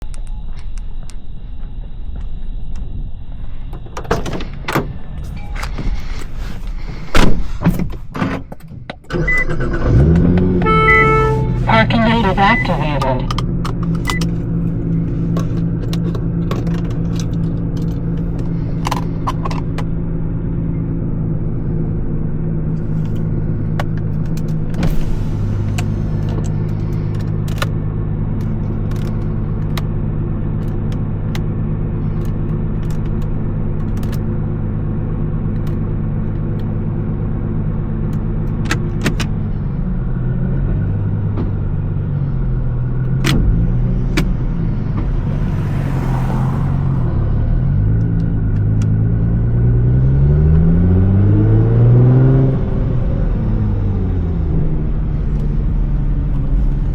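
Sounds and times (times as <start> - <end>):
car engine running: 0.0 - 56.9.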